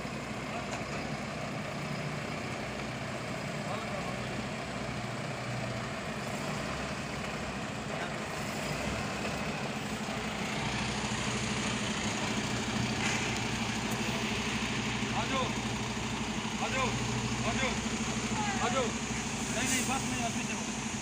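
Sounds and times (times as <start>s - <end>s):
truck diesel engine idling: 0.0s - 21.0s.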